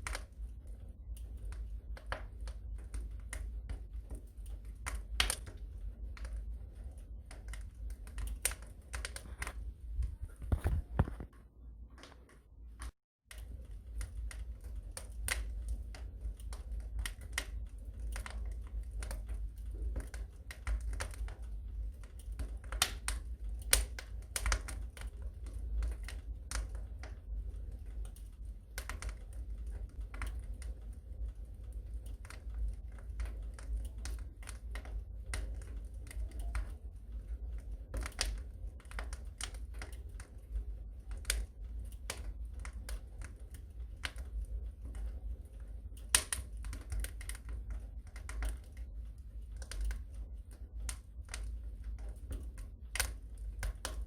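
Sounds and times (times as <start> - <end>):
steady low rumble: 0.0 - 54.0
wood fire crackling and popping: 0.0 - 54.0.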